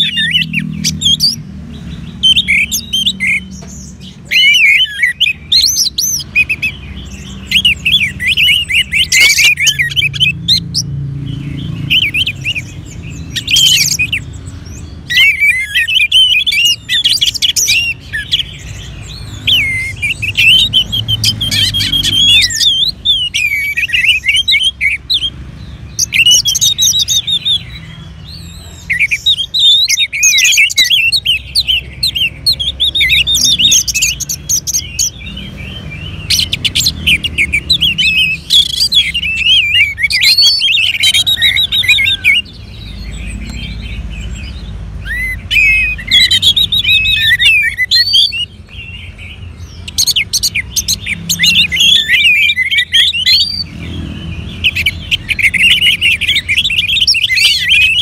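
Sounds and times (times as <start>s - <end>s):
thrushes singing: 0.0s - 58.0s.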